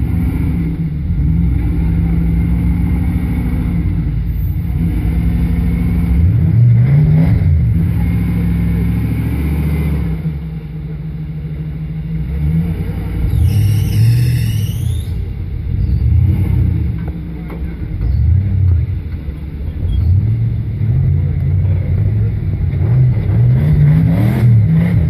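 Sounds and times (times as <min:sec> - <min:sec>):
truck engine revving under load: 0:00.0 - 0:10.7, 0:12.0 - 0:25.0.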